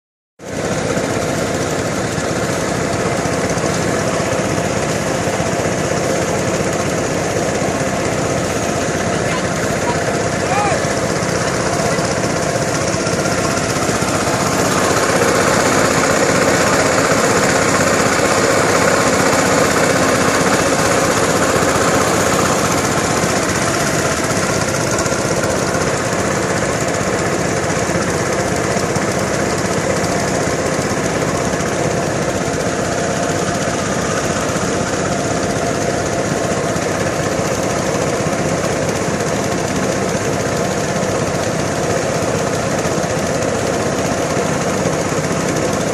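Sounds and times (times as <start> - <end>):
rough rattling engine: 0.4 - 45.9.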